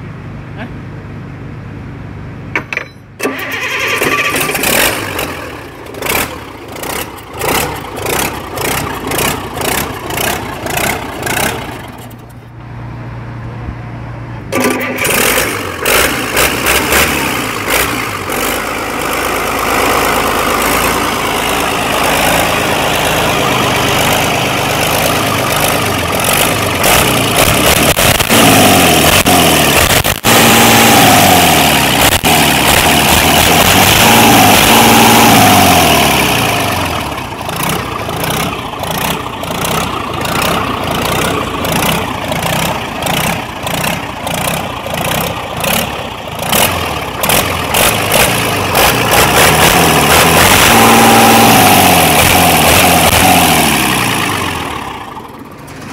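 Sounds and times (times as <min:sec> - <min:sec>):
diesel engine running and revving: 0:00.0 - 0:55.9.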